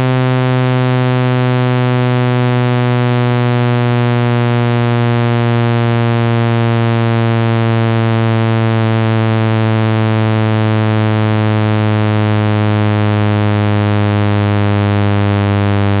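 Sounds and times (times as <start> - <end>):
low buzzing tone: 0.0 - 16.0.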